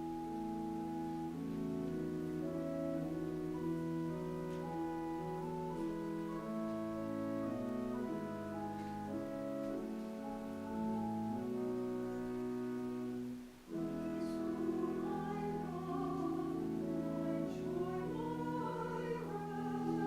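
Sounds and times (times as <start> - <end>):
keyboard instrument music: 0.0 - 20.0.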